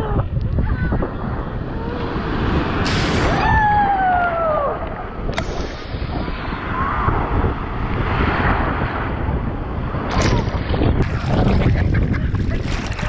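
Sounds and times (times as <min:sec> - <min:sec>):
wind buffeting microphone: 0:00.0 - 0:13.0
waves sloshing: 0:00.8 - 0:03.4, 0:04.8 - 0:13.0.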